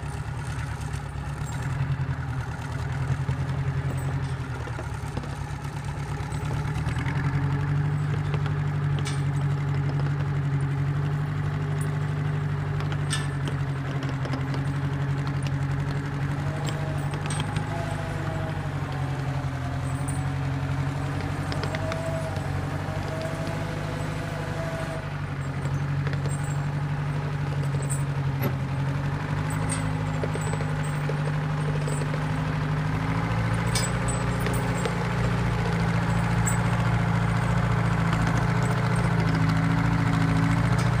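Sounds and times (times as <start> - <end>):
grader engine running: 0.0 - 41.0.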